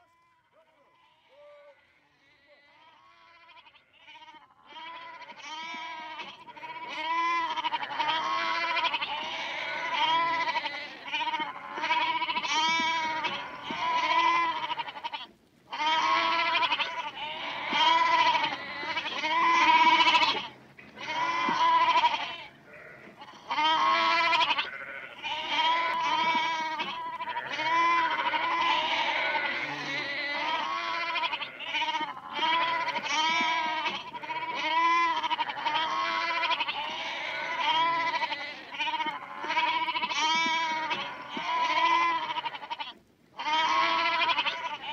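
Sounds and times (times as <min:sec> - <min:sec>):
goats bleating: 0:00.0 - 0:44.9.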